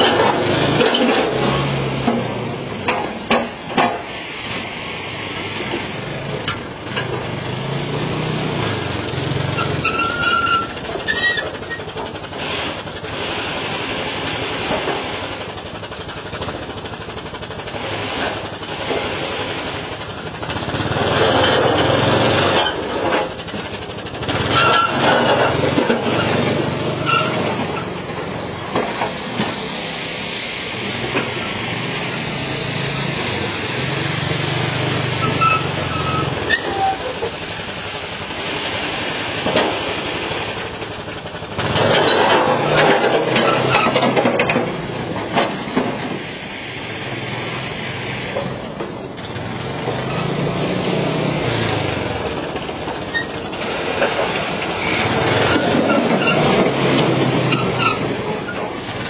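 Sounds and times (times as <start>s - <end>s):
atv engine under load: 0.0s - 59.0s.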